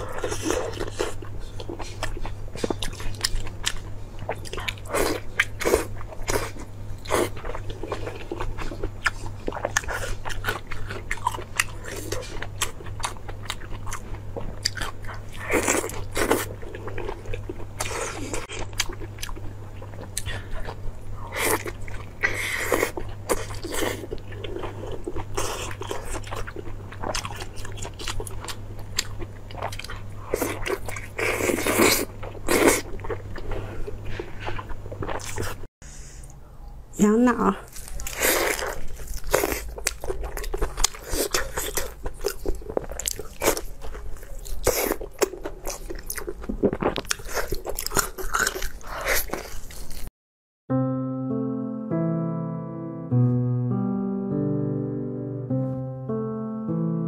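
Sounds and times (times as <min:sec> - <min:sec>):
wet chewing and biting: 0:00.0 - 0:35.7, 0:37.6 - 0:50.1.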